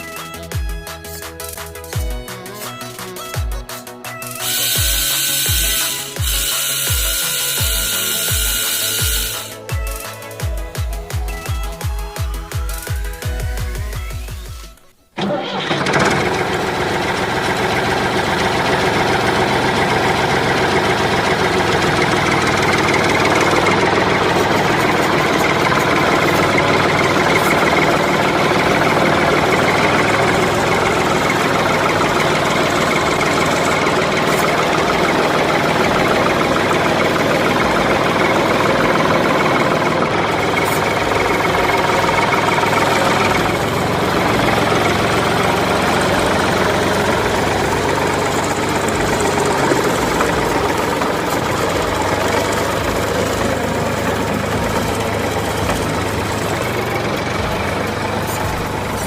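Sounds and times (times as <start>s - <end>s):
engine idling: 0.0s - 14.3s, 15.2s - 59.0s.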